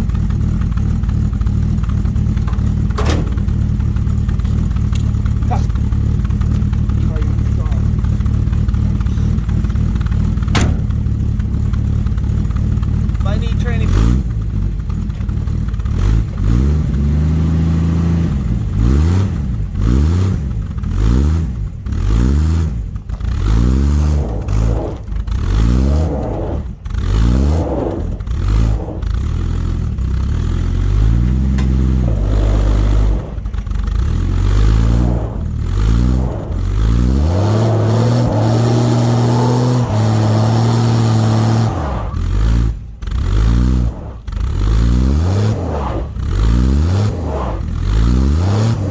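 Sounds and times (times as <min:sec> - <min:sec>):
pickup truck engine revving: 0:00.0 - 0:48.9.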